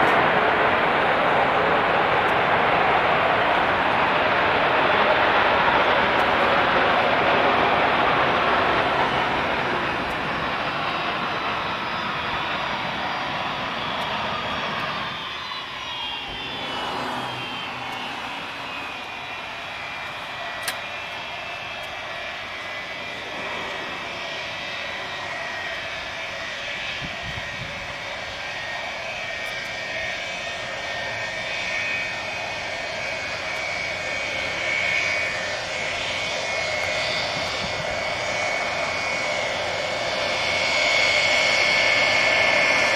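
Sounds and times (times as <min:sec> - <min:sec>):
jetliner engines roaring: 0:00.0 - 0:42.9
turbine whine: 0:00.0 - 0:42.9.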